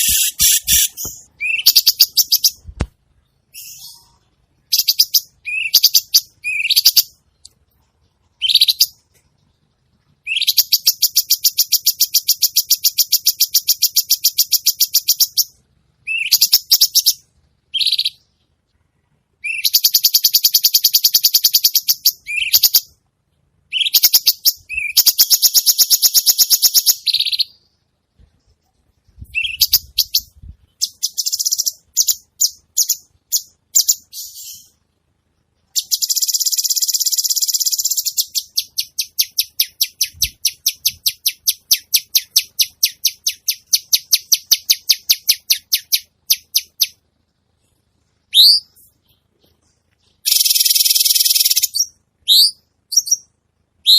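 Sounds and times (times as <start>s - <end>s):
sharp evenly spaced bird notes: 0.0s - 23.0s, 23.6s - 27.9s, 28.7s - 34.8s, 35.6s - 47.0s, 48.2s - 53.9s.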